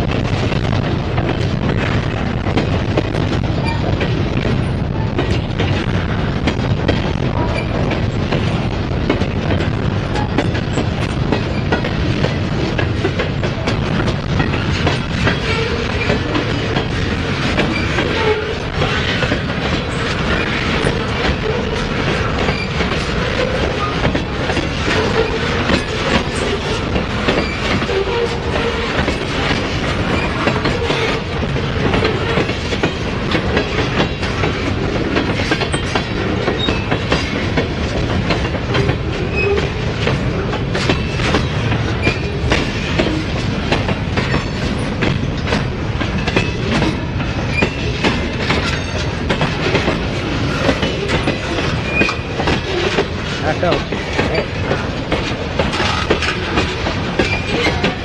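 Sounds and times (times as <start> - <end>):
freight train rumble: 0.0 - 58.0
train wheels clicking over rail joints: 0.0 - 58.0.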